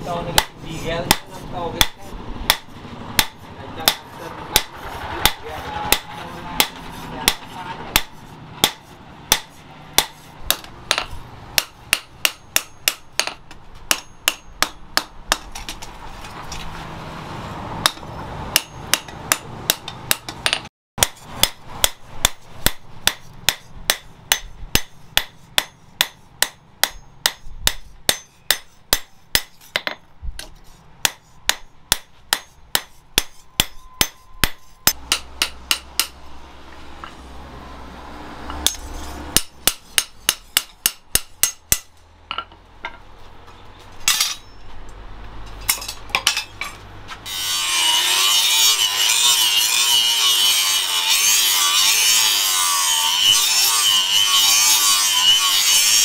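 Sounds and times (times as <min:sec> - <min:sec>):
hammer striking metal: 0:00.2 - 0:15.9, 0:17.8 - 0:36.4, 0:38.5 - 0:43.0, 0:44.0 - 0:44.7, 0:45.6 - 0:56.0.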